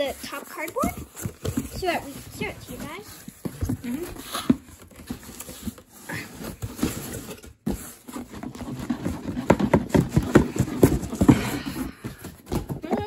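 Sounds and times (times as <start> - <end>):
cardboard box scraping and rustling: 0.0 - 13.0.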